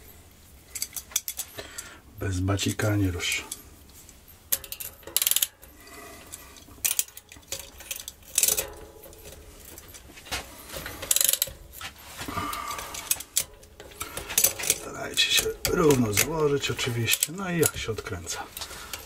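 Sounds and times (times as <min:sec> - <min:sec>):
metal bike tools clinking: 0:00.0 - 0:19.0.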